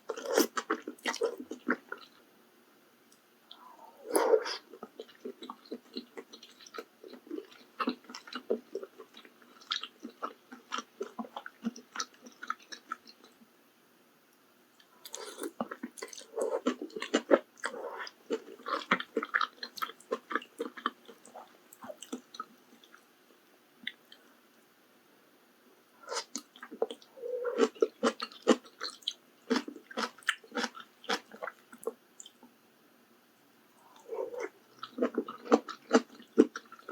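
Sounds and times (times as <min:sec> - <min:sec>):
close chewing with mouth smacks: 0:00.1 - 0:02.2, 0:03.5 - 0:13.4, 0:14.8 - 0:23.1, 0:26.1 - 0:32.5, 0:33.8 - 0:36.9.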